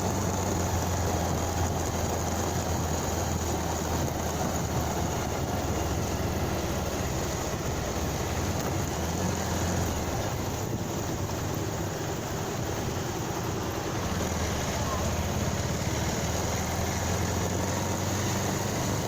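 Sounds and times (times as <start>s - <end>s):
motorcycle engine drone: 0.0s - 19.0s
road and rushing air noise: 0.0s - 19.0s.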